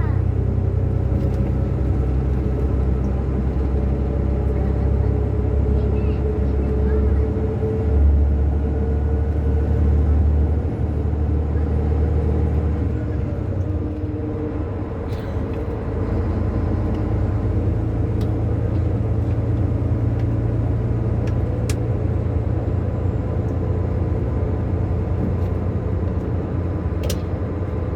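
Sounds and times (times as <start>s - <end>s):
diesel engine accelerating: 0.0s - 27.9s.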